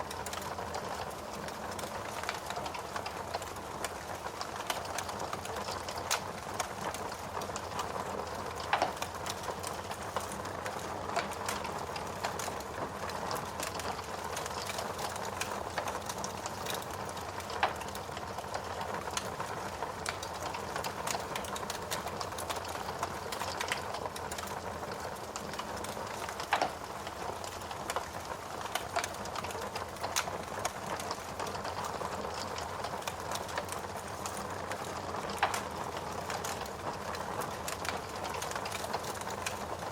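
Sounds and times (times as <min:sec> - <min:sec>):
burning wood crackling and popping: 0:00.0 - 0:39.9.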